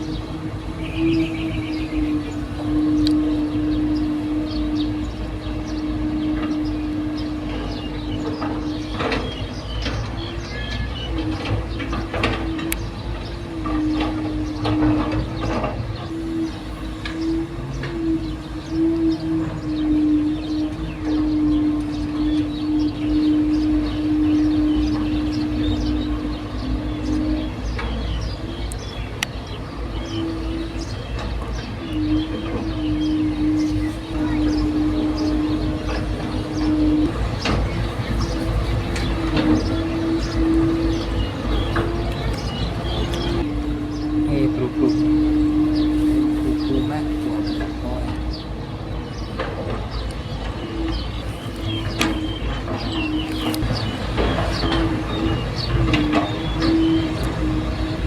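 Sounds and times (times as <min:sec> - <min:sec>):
birds chirping: 0:00.0 - 0:58.0
low rumble: 0:00.0 - 0:58.0
machine droning: 0:00.0 - 0:58.0.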